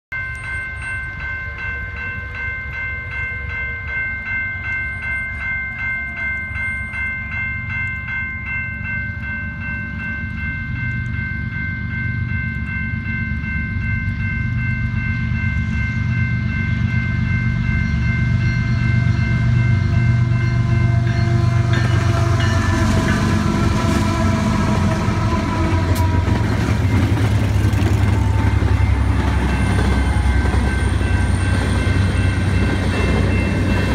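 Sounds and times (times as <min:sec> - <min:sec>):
railroad crossing bell ringing: 0:00.1 - 0:33.9
train wheels on rails: 0:00.2 - 0:33.9
locomotive engine rumble: 0:03.8 - 0:33.9.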